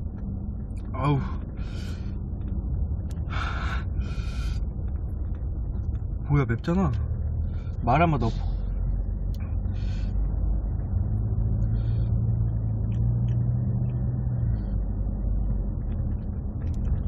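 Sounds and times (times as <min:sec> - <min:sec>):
low hum: 0:00.0 - 0:17.0
road rumble in car cabin: 0:00.0 - 0:17.0.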